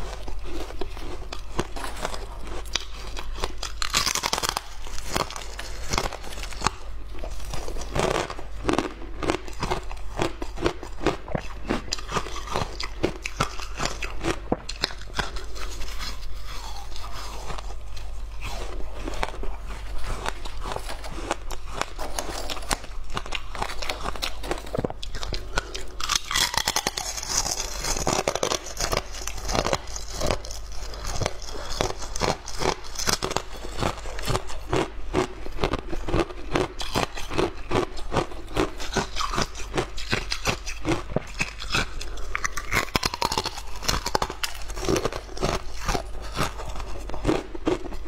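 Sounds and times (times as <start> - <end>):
ice crunching between teeth: 0.0 - 48.0.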